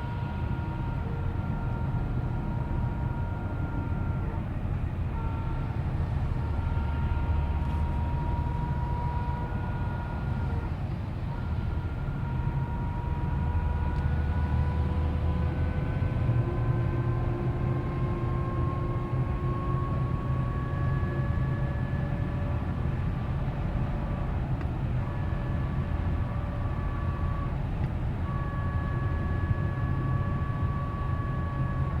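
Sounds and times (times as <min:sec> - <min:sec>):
car drivetrain whine: 0:00.0 - 0:32.0
road rumble: 0:00.0 - 0:32.0.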